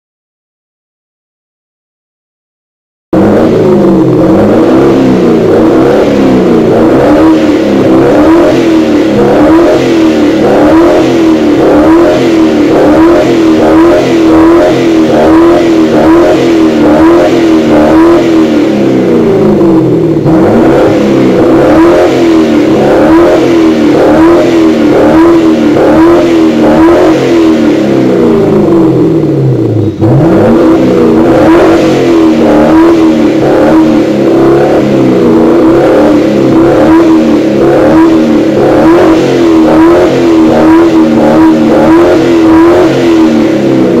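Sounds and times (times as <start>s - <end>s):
car engine revving: 3.2s - 44.0s.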